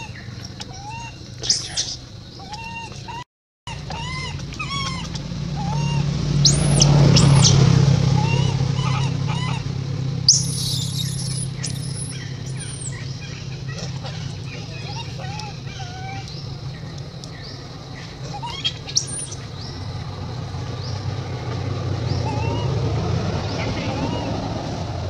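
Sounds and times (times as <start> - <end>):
infant monkey screaming: 0.0 - 9.7, 10.3 - 16.8, 17.4 - 19.8, 22.1 - 24.8
infant monkey cooing: 0.0 - 19.9, 22.1 - 24.9
steady low hum: 0.0 - 25.0.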